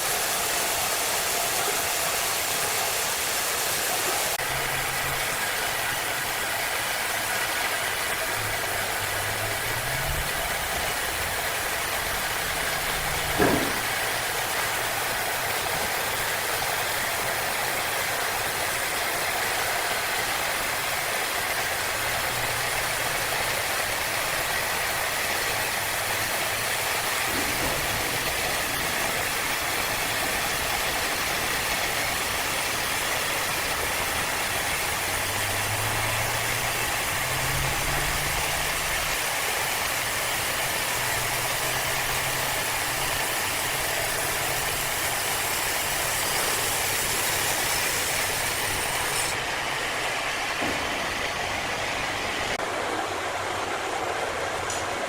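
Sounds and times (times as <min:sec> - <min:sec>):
engine-driven saw cutting wood: 0:00.0 - 0:52.6.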